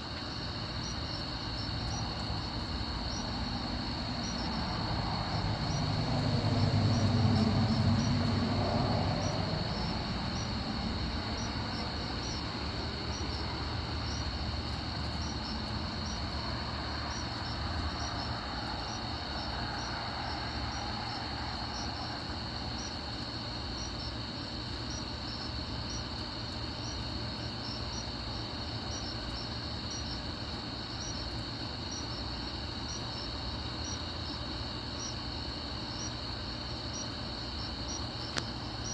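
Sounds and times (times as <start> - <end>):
night insects chirping: 0.0 - 38.9.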